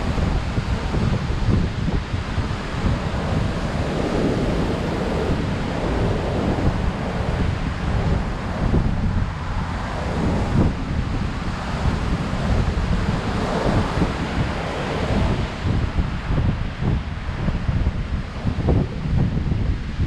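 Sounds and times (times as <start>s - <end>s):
surf breaking on beach: 0.0s - 19.2s
wind buffeting microphone: 0.0s - 20.0s.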